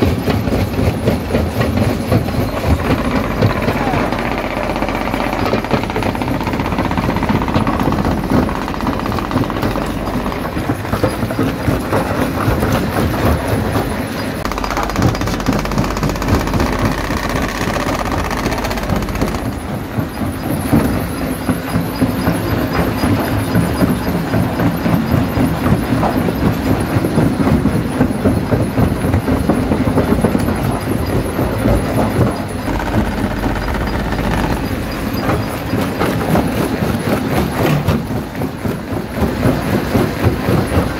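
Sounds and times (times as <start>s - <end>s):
rock crusher grinding stone: 0.1s - 40.9s.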